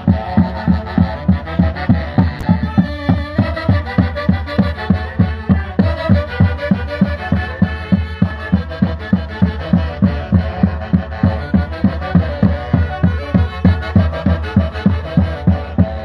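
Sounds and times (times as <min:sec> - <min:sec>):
saxophones playing melody: 0:00.0 - 0:16.0
steady bass drum beat: 0:00.0 - 0:16.0.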